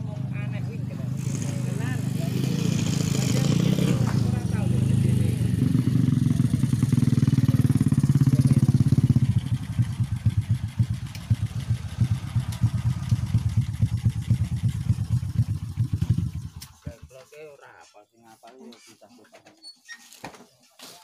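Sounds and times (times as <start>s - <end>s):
small motorcycle engines running: 0.0s - 17.0s.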